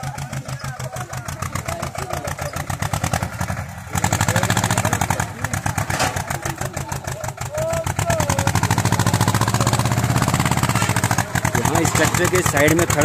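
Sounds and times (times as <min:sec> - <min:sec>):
small tractor engine chugging: 0:00.0 - 0:13.0.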